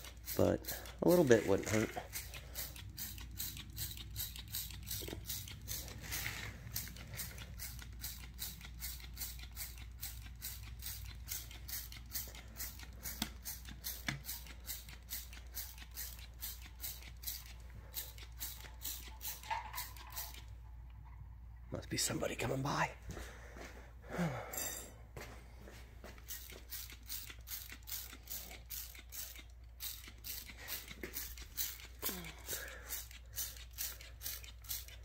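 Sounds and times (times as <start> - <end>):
spray bottle squirting onto metal: 0.0 - 20.5, 26.2 - 35.0.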